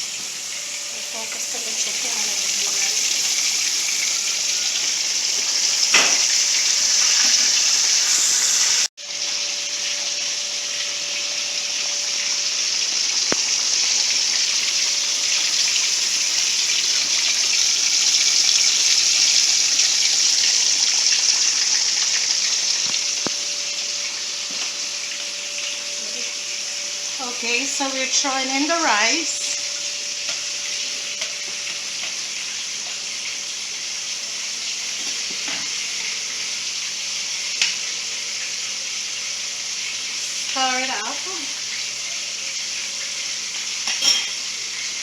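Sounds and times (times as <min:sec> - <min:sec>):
chicken frying in hot oil: 0:00.0 - 0:45.0.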